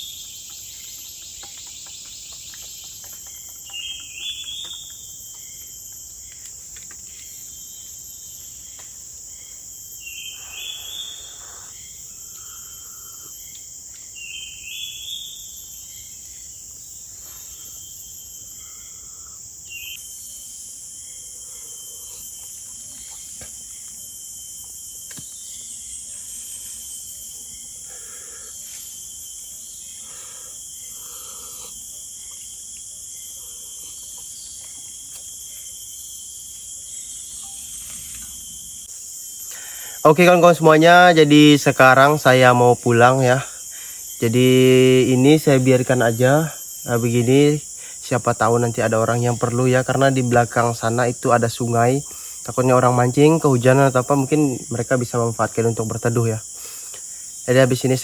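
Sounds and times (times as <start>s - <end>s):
forest insects chorus: 0.0s - 58.0s.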